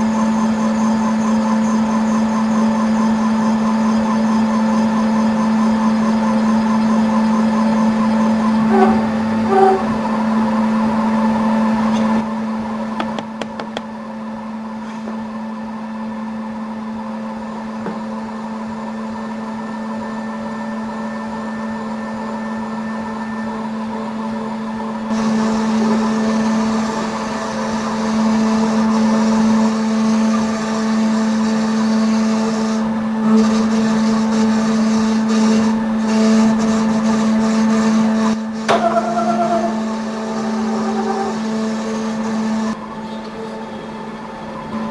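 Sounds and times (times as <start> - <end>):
milling machine spindle hum: 0.0 - 44.9.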